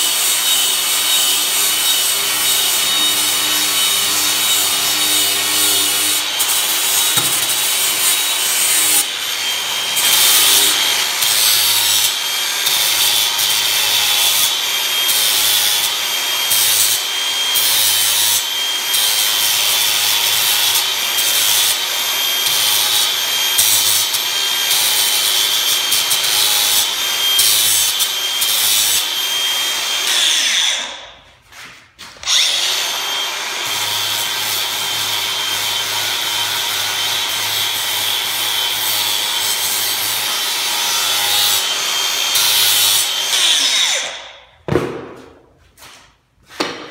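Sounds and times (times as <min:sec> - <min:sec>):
angle grinder whining: 0:00.0 - 0:31.2, 0:32.2 - 0:44.4.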